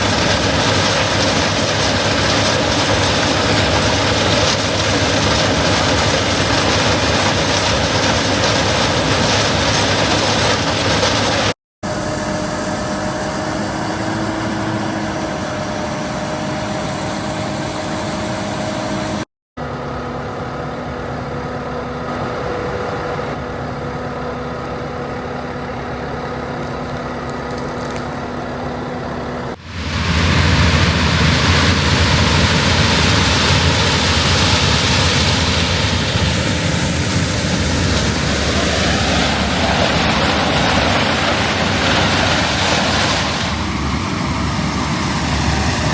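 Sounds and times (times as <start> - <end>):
harvester engines running: 0.0 - 45.9.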